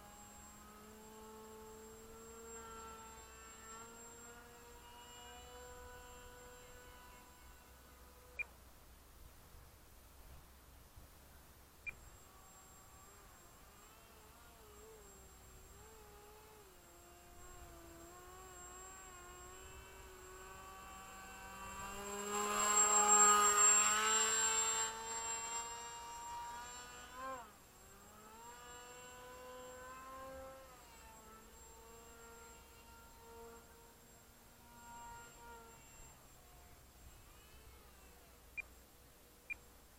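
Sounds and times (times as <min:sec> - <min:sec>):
rc plane motor whine: 0:00.0 - 0:08.6, 0:11.8 - 0:38.8.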